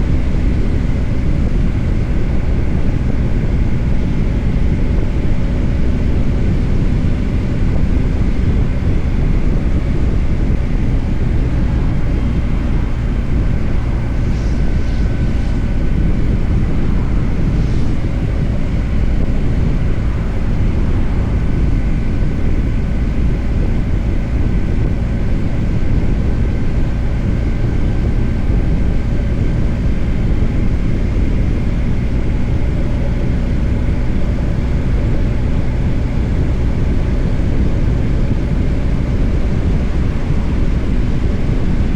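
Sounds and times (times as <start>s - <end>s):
motorcycle engine running: 0.0s - 41.9s
wind on microphone: 0.0s - 41.9s.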